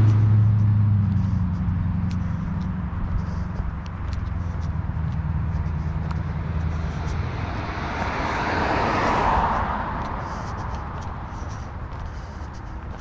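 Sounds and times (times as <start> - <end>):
car driving past: 0.0 - 11.9
low engine hum: 0.0 - 13.0.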